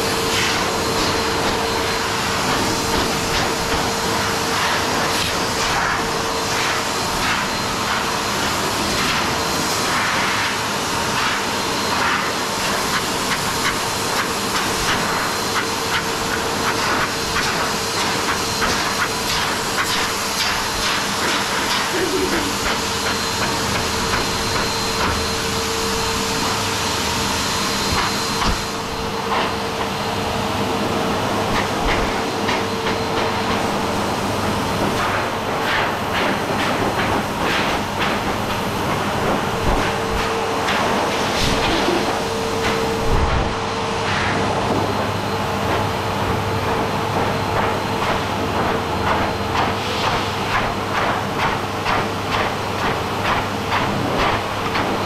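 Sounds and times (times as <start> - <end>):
dog dryer rushing hiss: 0.0 - 55.0
dryer motor whine: 0.0 - 55.0.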